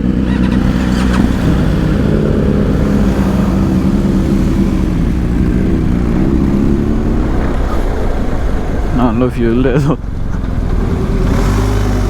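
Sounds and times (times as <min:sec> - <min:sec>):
motorcycle engine running: 0:00.0 - 0:12.0
wind noise on microphone: 0:00.1 - 0:12.0.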